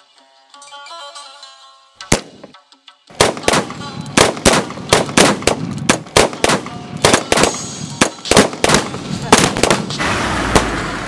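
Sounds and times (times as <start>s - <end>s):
sharp gunshots: 2.1s - 11.0s.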